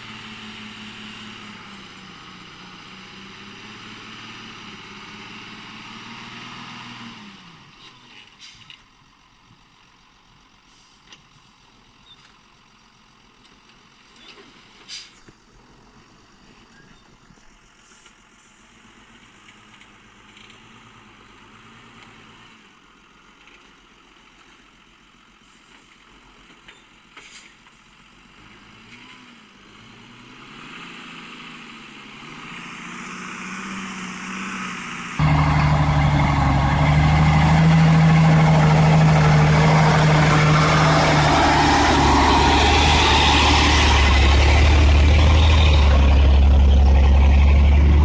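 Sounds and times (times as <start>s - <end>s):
diesel truck engine: 0.0s - 17.4s, 18.0s - 48.0s.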